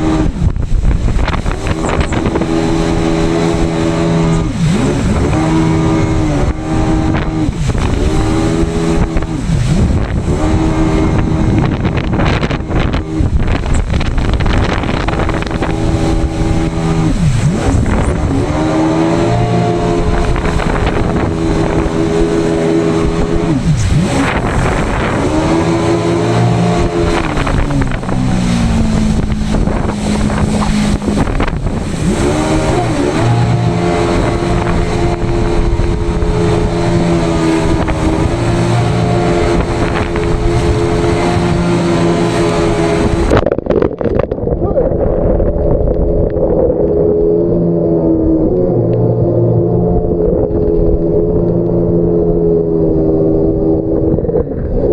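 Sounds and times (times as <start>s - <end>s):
jet ski engine revving: 0.0s - 43.5s, 45.2s - 54.9s
rushing water and wind: 0.0s - 54.9s.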